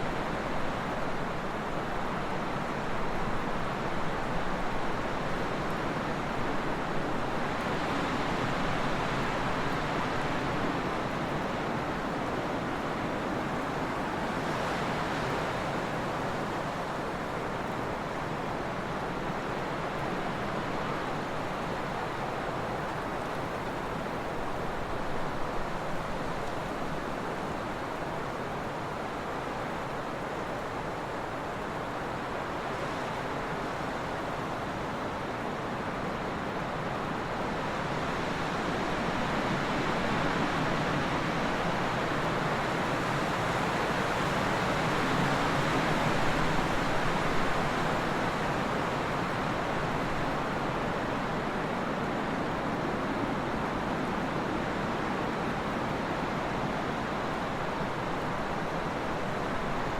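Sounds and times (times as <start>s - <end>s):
wind blowing steadily: 0.0s - 59.9s.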